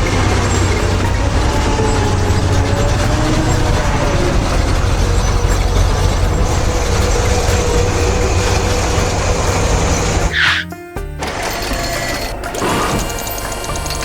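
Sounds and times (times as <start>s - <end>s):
heavy machine engine rumbling: 0.0s - 14.0s.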